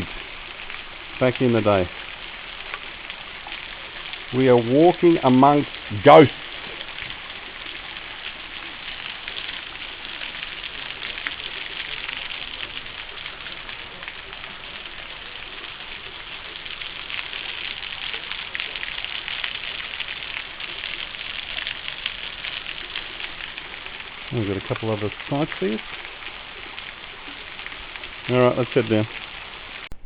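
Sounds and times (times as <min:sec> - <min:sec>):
small waterfall splashing on rock: 0:00.0 - 0:30.0.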